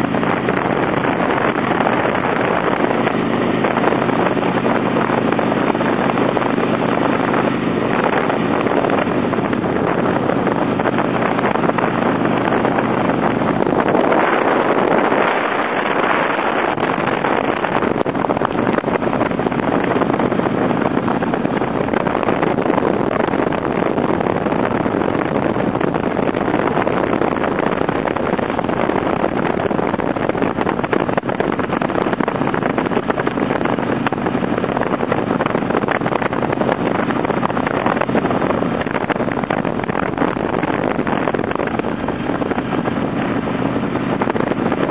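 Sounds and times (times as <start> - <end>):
motorcycle engine: 0.0 - 44.9
wind rush: 0.0 - 44.9
rain pattering: 0.1 - 44.9.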